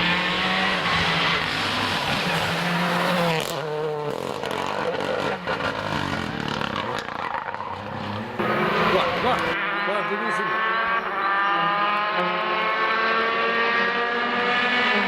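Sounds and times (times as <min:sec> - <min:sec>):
rally car engine at high revs: 0:00.0 - 0:15.0.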